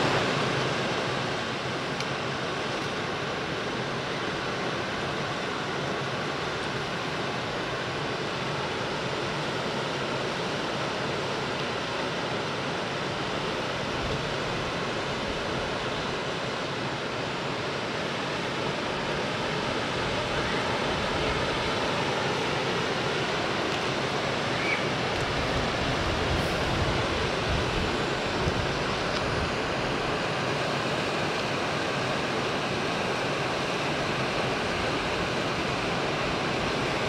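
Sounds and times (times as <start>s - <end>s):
creek water rushing over rocks: 0.0s - 37.0s.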